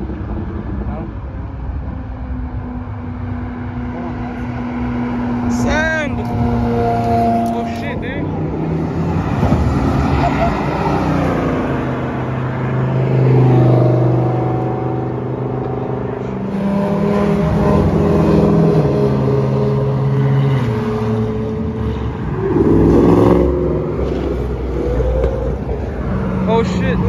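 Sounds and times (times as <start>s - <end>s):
sports car engines accelerating: 0.0s - 27.0s.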